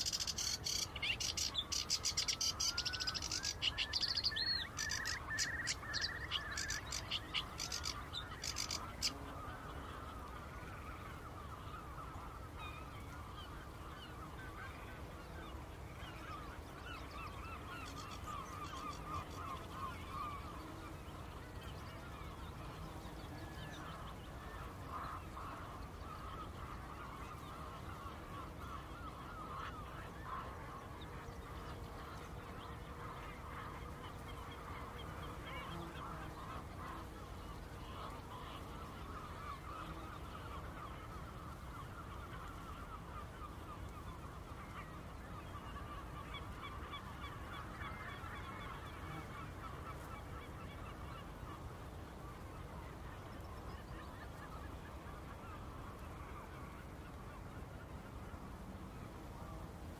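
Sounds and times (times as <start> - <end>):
low rumble of wind or water: 3.9 - 59.9.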